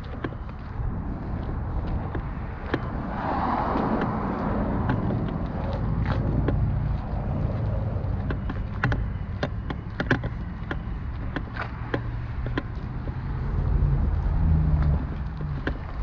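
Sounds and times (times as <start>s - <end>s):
vehicle engine rumbling: 0.0s - 16.0s
sharp clicks: 1.4s - 16.0s.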